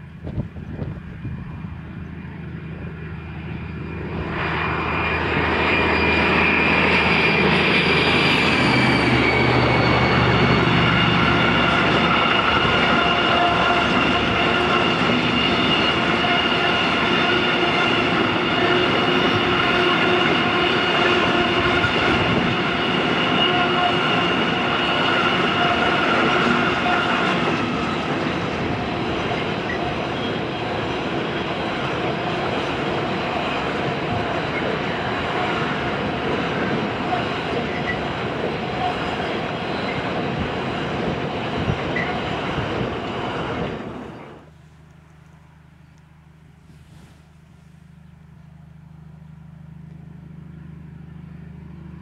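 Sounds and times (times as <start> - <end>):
diesel locomotive passing: 0.0 - 52.0
train wheels rumbling on rails: 0.0 - 52.0.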